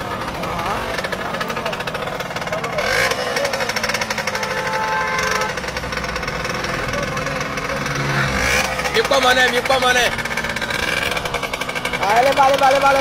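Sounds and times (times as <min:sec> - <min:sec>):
small engine knocking: 0:00.0 - 0:13.0.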